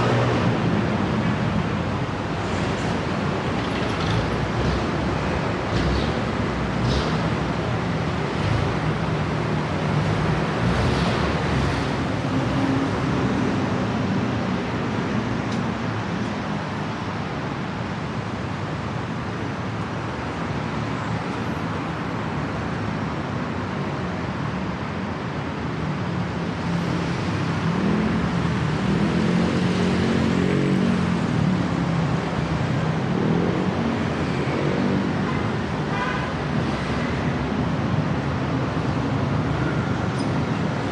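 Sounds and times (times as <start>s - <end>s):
heavy engines close by: 0.0s - 40.9s
road traffic: 0.0s - 40.9s.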